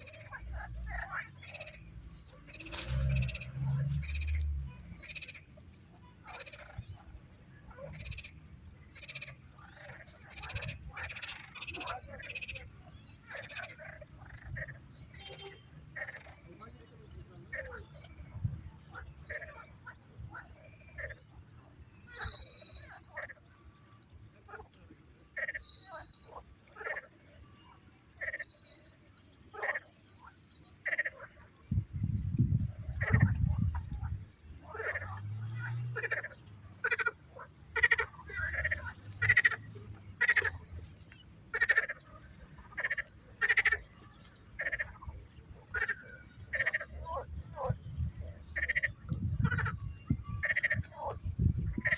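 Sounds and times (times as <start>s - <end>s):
frogs croaking: 0.0s - 24.7s, 25.3s - 51.9s.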